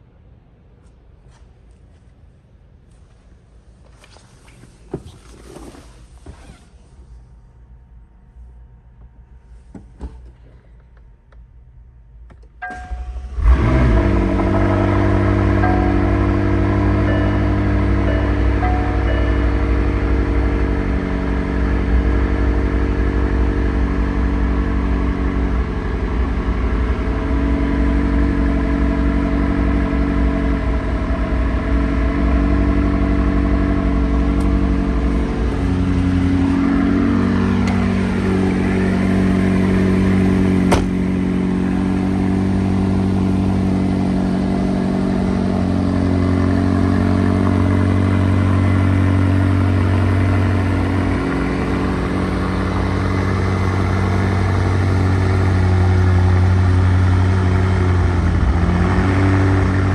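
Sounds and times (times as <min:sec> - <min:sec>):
car engine idling: 0:06.8 - 0:59.9.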